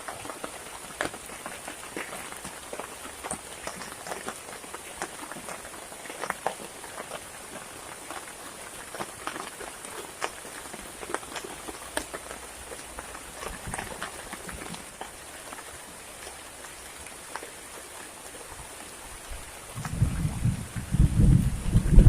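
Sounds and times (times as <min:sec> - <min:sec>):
heavy rain falling: 0:00.0 - 0:22.0
raindrops tapping: 0:00.0 - 0:22.0.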